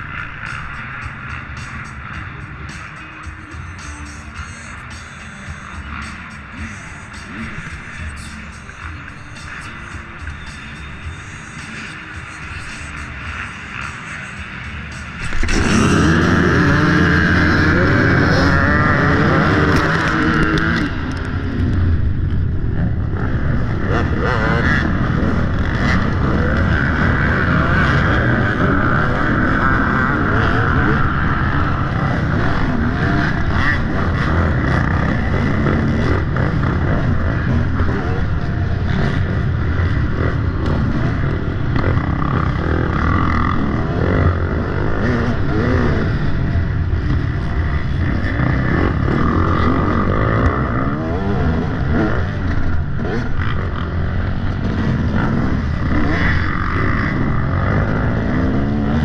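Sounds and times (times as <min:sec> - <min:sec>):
dirt bike engine revving: 0:00.0 - 0:03.3, 0:03.9 - 0:59.0.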